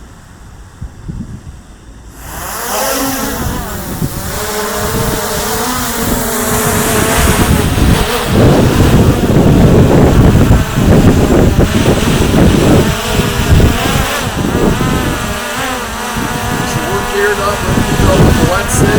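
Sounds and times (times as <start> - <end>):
wind buffeting microphone: 0.4 - 18.9
drone propellers whining: 2.1 - 18.9.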